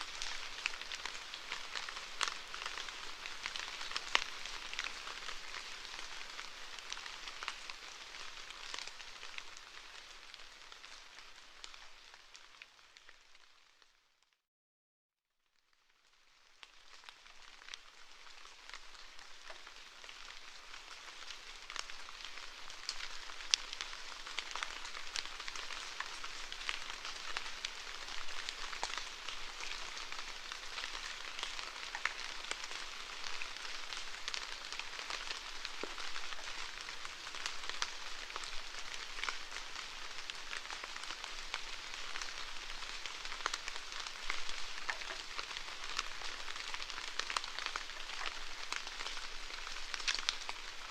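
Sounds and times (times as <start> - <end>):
steady rainfall with drop ticks: 0.0 - 14.0, 15.5 - 50.9.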